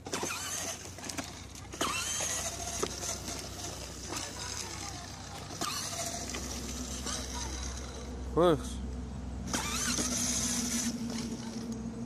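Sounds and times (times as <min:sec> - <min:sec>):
plastic wheels rumbling on pavement: 0:00.0 - 0:08.1, 0:09.5 - 0:11.8
electric motor humming: 0:00.0 - 0:08.4, 0:09.4 - 0:12.0.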